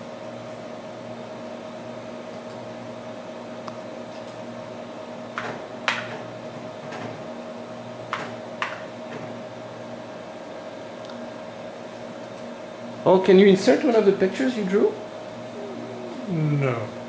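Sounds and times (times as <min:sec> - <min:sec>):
computer machine hum: 0:00.0 - 0:17.0.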